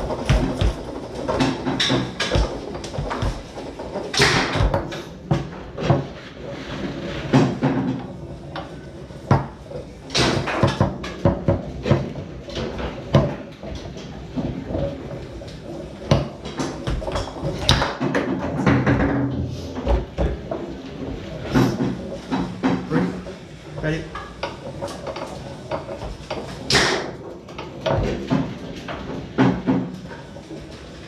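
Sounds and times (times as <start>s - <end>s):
foosball ball knocks and clacks: 0.0s - 31.0s.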